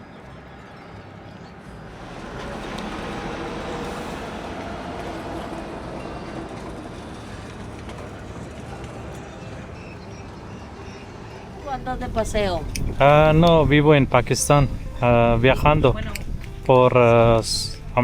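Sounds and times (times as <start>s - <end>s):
rushing noise: 0.0s - 15.6s
motor vehicle running: 0.0s - 18.0s.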